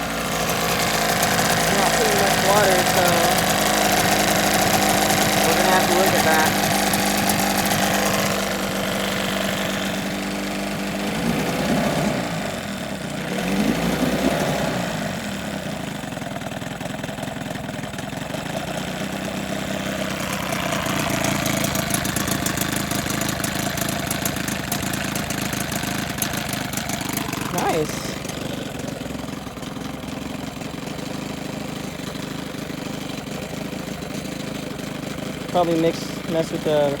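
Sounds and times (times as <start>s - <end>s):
two-stroke outboard motor running: 0.0s - 37.0s.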